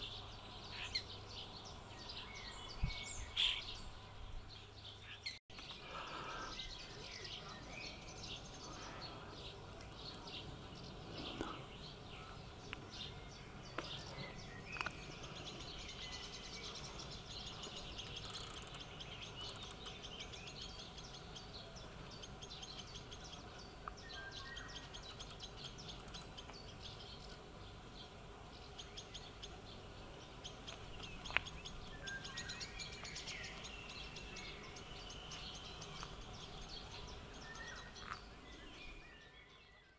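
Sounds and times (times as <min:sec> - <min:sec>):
songbirds chirping and trilling: 0:00.0 - 0:39.9
steady low background noise: 0:00.0 - 0:39.9.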